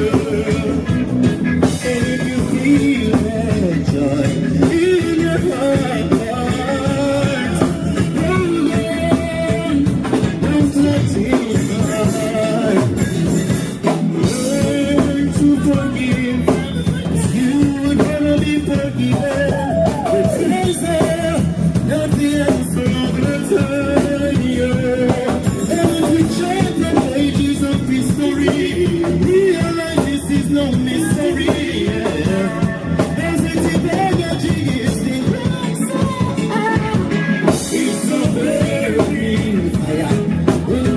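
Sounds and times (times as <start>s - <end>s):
live reggae band: 0.0s - 40.9s
person singing: 0.0s - 40.9s
steady drum beat: 0.0s - 40.9s.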